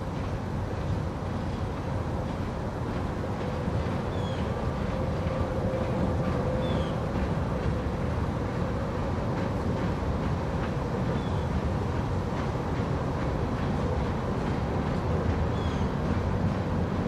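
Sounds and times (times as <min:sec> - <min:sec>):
diesel locomotive rumbling: 0:00.0 - 0:17.0.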